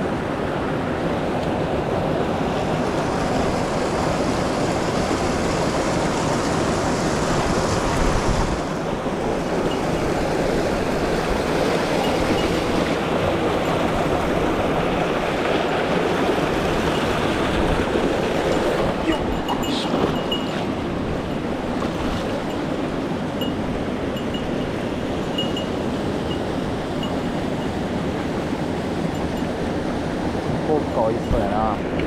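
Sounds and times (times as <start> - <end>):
stream water rushing over rocks: 0.0 - 32.0.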